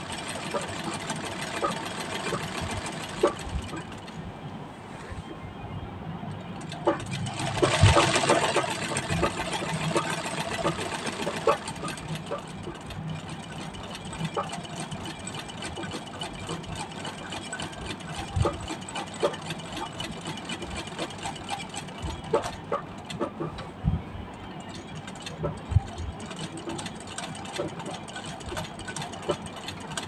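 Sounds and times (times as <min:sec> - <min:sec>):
treadle sewing machine running: 0:00.0 - 0:04.2, 0:06.6 - 0:23.6, 0:24.4 - 0:30.0.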